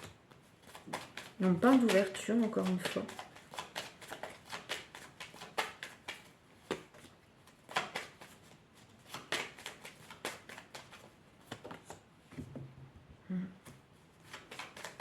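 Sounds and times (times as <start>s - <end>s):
cards being shuffled: 0.0s - 12.0s, 14.2s - 15.0s.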